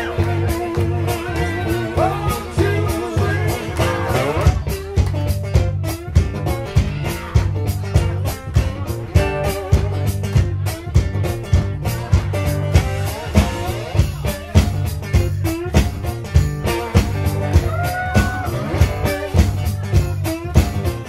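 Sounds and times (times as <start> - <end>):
bass guitar line: 0.0 - 21.0
electric guitar riff: 0.0 - 21.0
steady drum beat: 0.0 - 21.0.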